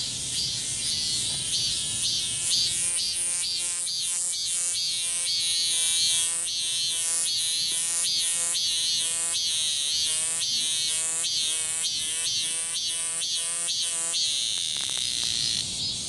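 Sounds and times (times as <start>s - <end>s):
cicada singing: 0.0s - 16.0s.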